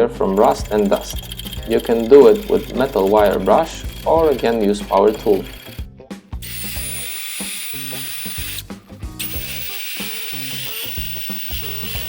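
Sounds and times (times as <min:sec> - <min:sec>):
wire brush power tool whine: 0:00.0 - 0:12.0.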